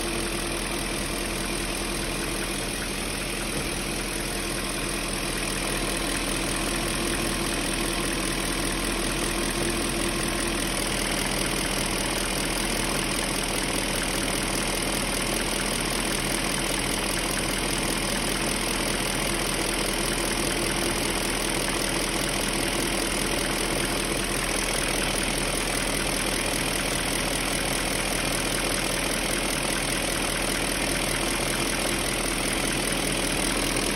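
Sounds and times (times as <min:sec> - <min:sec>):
car engine idling: 0:00.0 - 0:33.9
engine knocking: 0:00.1 - 0:33.9.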